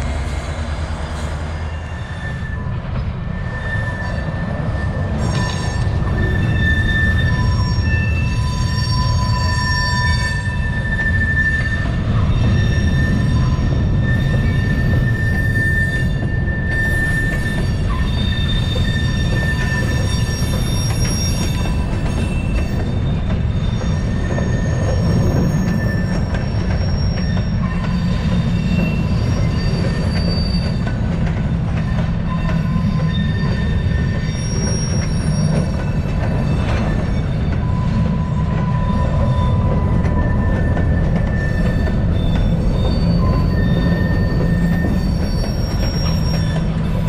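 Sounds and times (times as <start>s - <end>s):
high-pitched wheel squeals: 0.0s - 47.0s
train wheels rumbling on rail: 0.0s - 47.0s.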